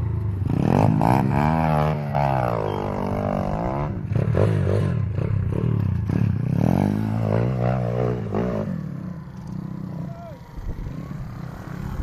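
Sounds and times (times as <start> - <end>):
pit bike engine revving: 0.0 - 12.0.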